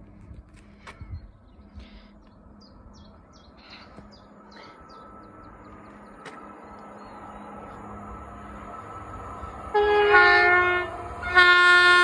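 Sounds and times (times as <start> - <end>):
distant train hum: 0.0 - 12.0.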